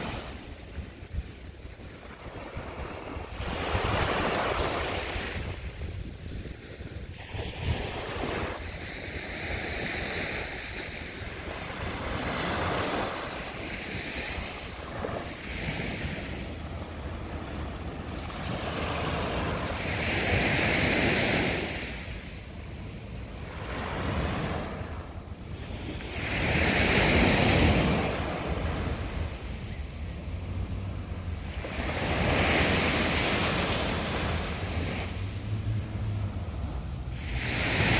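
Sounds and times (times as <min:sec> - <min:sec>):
small waves breaking on sand: 0:00.0 - 0:37.9
wind rumbling on microphone: 0:00.0 - 0:37.9.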